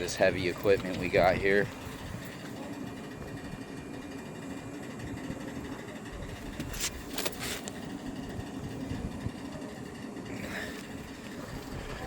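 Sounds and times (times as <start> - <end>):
heavy equipment engine running: 0.0 - 12.0.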